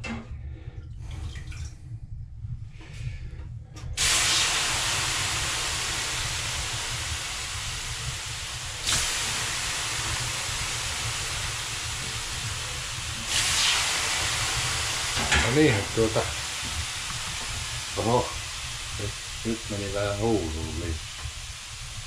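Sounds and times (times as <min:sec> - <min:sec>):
water hissing on hot stones: 0:04.0 - 0:22.0.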